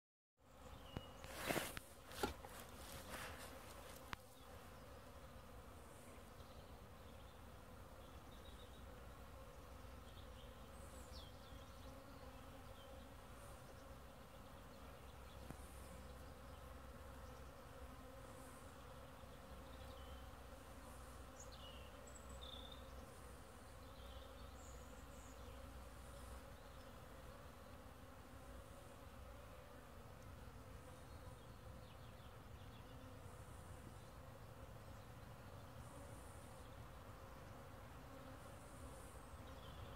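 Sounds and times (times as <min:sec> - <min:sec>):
honeybees buzzing: 0:00.4 - 0:39.9.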